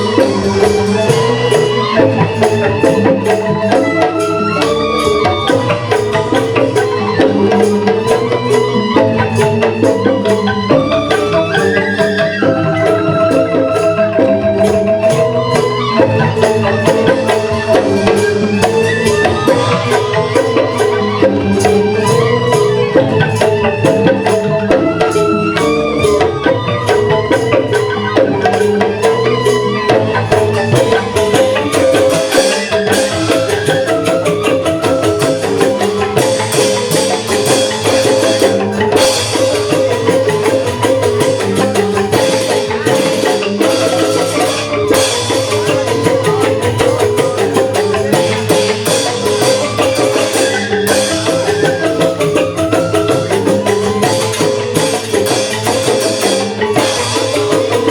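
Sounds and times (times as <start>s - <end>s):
bamboo xylophones playing: 0.0s - 57.9s
percussion: 0.0s - 57.9s.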